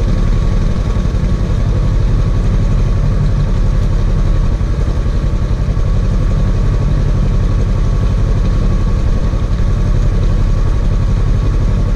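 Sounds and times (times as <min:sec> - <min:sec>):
utility vehicle engine idling: 0:00.0 - 0:11.9.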